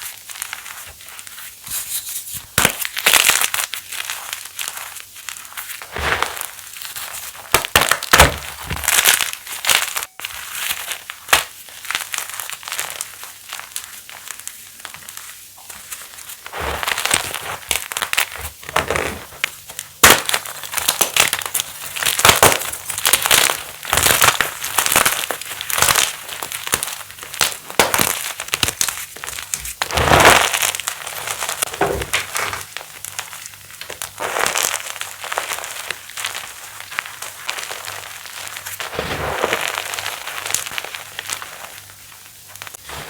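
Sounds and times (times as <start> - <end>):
chalk being crushed: 0.0 - 42.0, 42.6 - 43.0.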